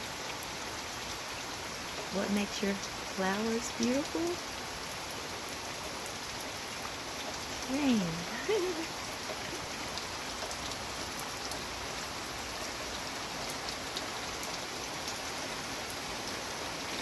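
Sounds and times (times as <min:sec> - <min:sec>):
rain hissing: 0:00.0 - 0:17.0
raindrops ticking on surfaces: 0:00.0 - 0:17.0.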